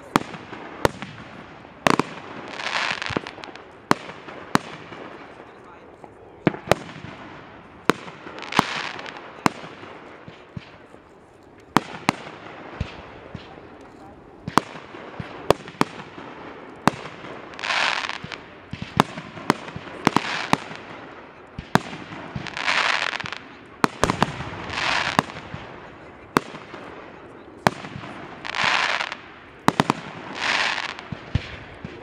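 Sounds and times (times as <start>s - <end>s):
fireworks bangs: 0.0s - 32.0s
hissing crackling fireworks: 0.0s - 32.0s.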